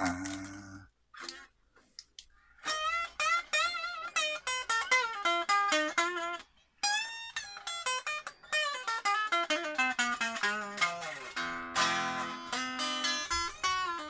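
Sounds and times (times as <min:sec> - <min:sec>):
electric guitar picked notes: 0:02.6 - 0:14.0.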